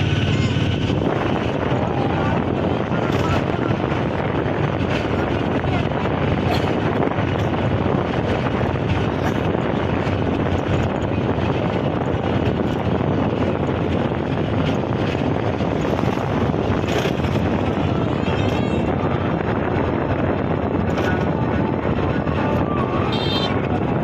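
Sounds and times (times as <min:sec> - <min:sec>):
vehicle running noise: 0:00.0 - 0:24.0
wind buffeting microphone: 0:00.0 - 0:24.0.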